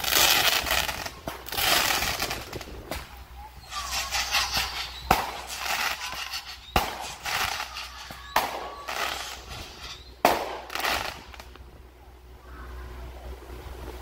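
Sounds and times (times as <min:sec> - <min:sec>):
firework bangs: 0:00.0 - 0:11.6
crackling hiss of sparks: 0:00.0 - 0:11.7.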